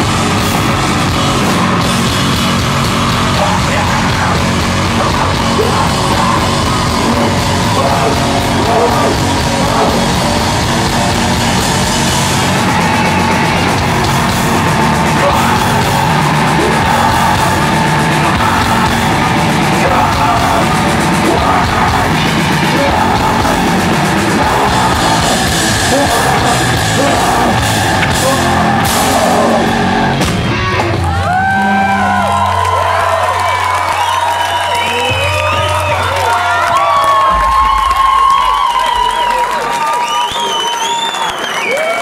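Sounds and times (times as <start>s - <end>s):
distorted guitars: 0.0s - 39.3s
drums: 0.0s - 42.0s
shouted vocals: 3.2s - 42.0s.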